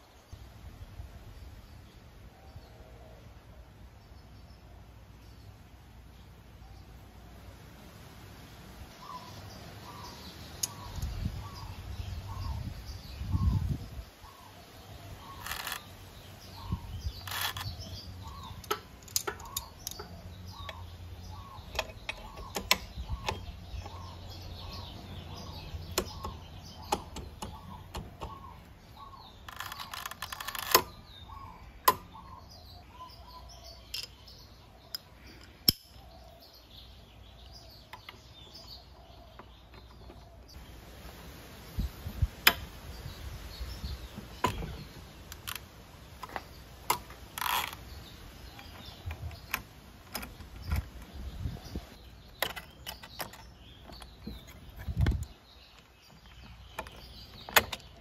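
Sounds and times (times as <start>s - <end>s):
bird chirping: 0.0s - 7.8s, 8.8s - 58.0s.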